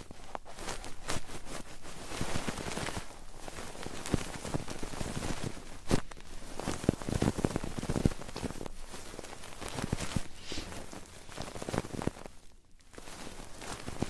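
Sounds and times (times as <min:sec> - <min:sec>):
rubbing and scratching on microphone: 0:00.0 - 0:14.0.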